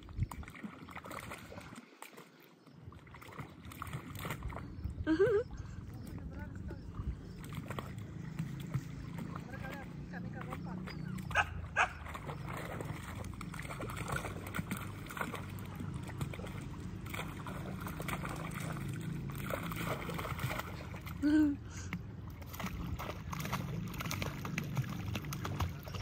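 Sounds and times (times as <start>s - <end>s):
puppies splashing in water: 0.0s - 26.0s.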